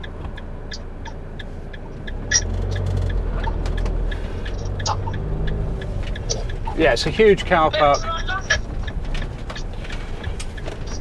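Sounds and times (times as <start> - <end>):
engine and road rumble: 0.0 - 11.0
light regular ticking: 0.0 - 11.0.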